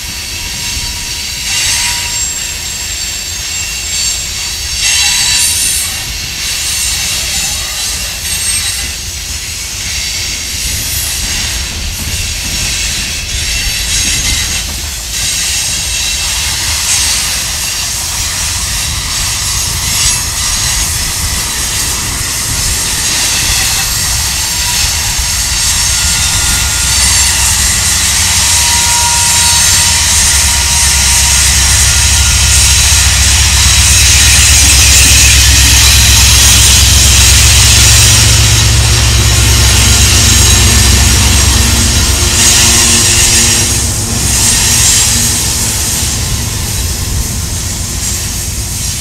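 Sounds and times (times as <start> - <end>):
steel wheels on rail: 0.0 - 49.0
locomotive engine rumble: 8.9 - 49.0.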